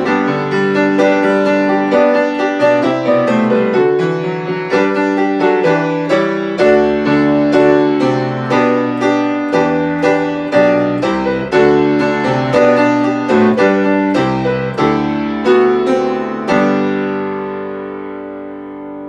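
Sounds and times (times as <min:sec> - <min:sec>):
grand piano playing chords: 0:00.0 - 0:19.0.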